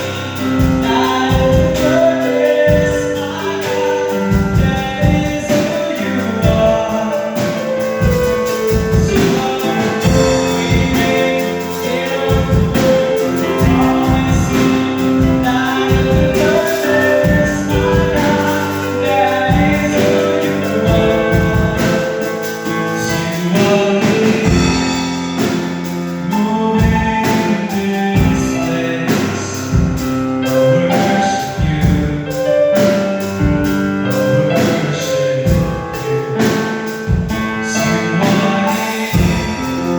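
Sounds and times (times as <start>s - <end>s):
band playing: 0.0s - 39.9s
gospel voices singing: 0.0s - 39.9s
steady drum beat: 0.0s - 39.9s.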